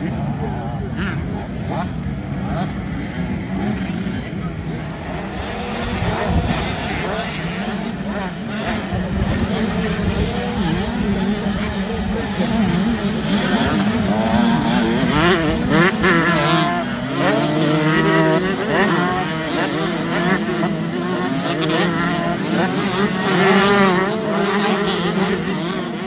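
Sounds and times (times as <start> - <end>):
motocross bikes revving past: 0.0 - 26.0.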